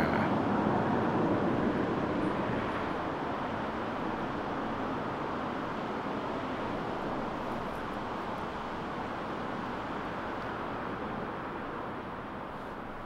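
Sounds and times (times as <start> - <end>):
passing car tyre and engine noise: 0.0 - 13.0.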